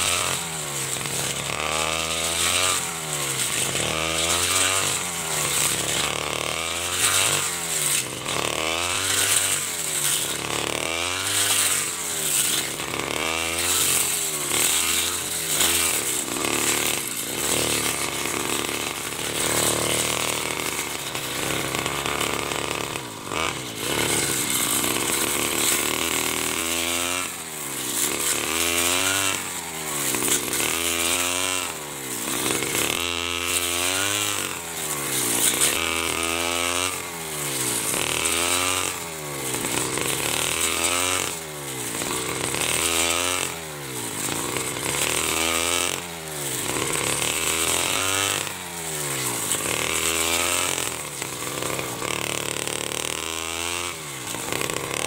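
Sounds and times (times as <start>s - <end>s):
brush cutter engine at high revs: 0.0s - 55.0s.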